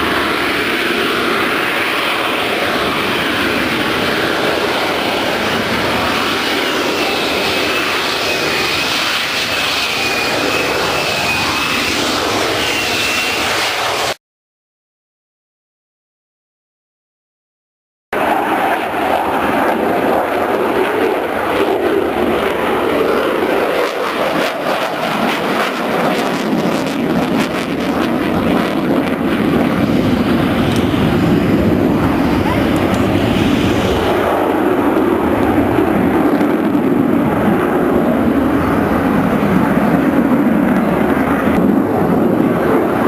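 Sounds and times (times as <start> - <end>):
military aircraft engine rushing: 0.0 - 14.2, 18.2 - 43.0.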